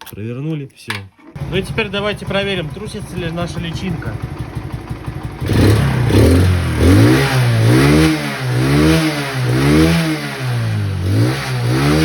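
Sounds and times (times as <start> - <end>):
moped engine revving: 1.4 - 12.0.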